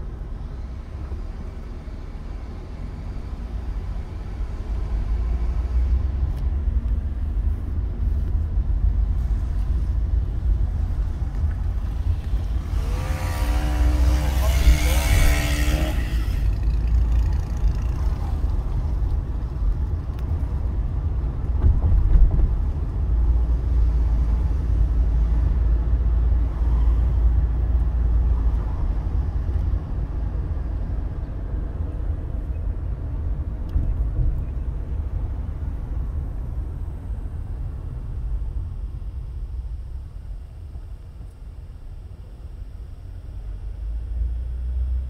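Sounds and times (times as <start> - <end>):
car driving rumble: 0.0 - 45.0.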